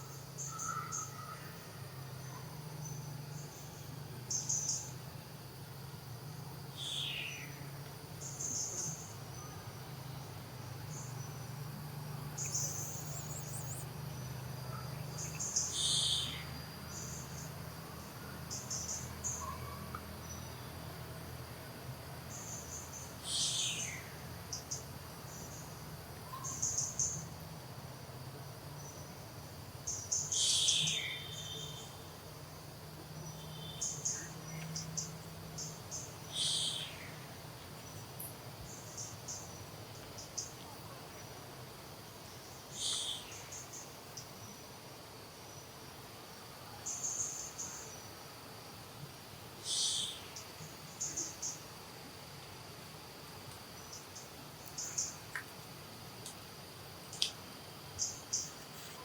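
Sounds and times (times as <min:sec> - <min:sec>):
insect chirring: 0:00.0 - 0:20.7, 0:22.2 - 0:44.6, 0:45.5 - 0:59.0.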